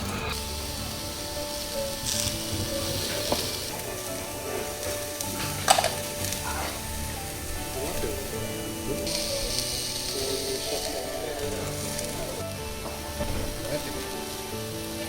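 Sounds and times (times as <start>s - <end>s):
faint background music: 0.0s - 15.0s
meat sizzling on a grill: 0.0s - 15.0s.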